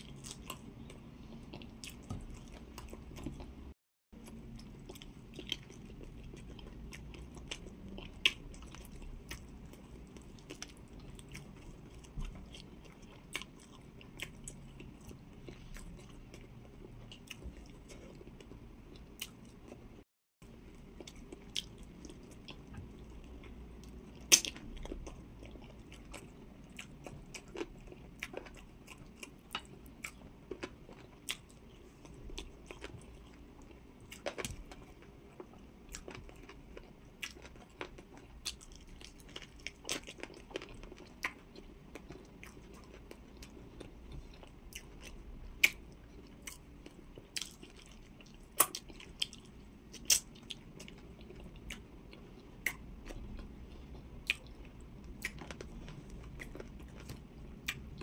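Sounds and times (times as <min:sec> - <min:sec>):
chewing with mouth clicks: 0:00.0 - 0:03.6, 0:04.2 - 0:19.8, 0:20.7 - 0:58.0.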